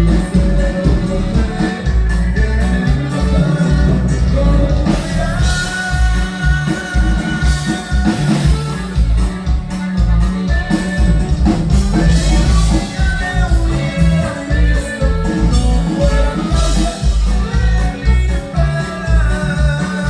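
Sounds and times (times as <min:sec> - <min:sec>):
band music with singer: 0:00.0 - 0:20.0
heavy pulsing bass: 0:00.0 - 0:20.0.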